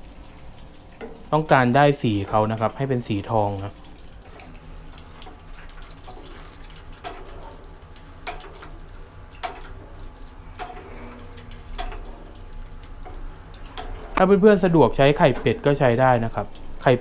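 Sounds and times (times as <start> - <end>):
oil bubbling and sizzling: 0.0 - 17.0.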